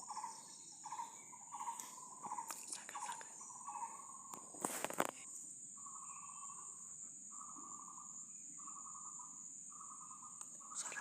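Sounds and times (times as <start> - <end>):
insects buzzing: 0.0 - 11.0
pulsed insect trill: 0.0 - 11.0.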